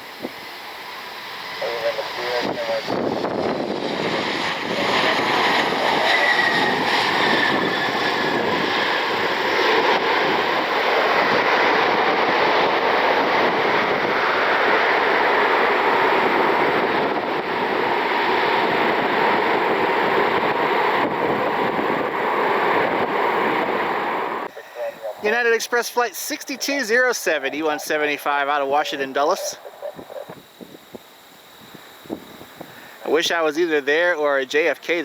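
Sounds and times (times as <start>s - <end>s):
jet airliner passing overhead: 0.0s - 35.0s.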